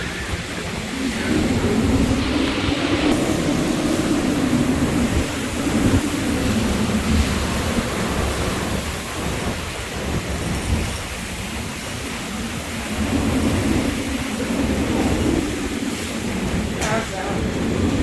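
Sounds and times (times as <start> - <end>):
driving rain: 0.0 - 18.0
strong wind blasting microphone: 0.0 - 18.0.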